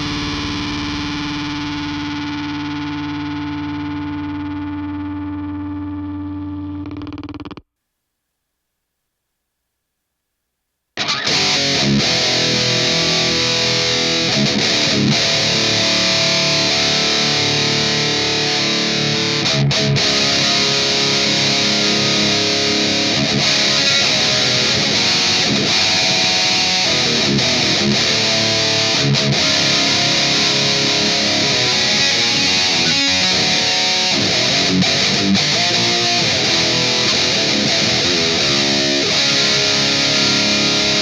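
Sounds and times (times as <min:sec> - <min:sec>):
distorted electric guitar riffs: 0:00.0 - 0:07.7, 0:11.0 - 0:41.0.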